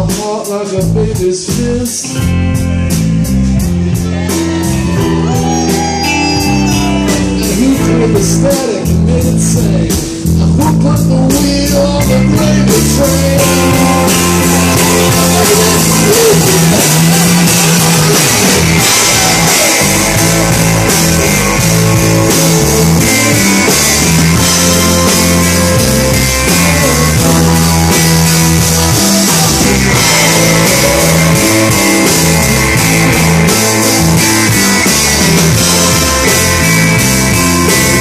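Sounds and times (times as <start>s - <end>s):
bass guitar: 0.0s - 38.0s
drum kit: 0.0s - 38.0s
electric guitars: 0.0s - 38.0s.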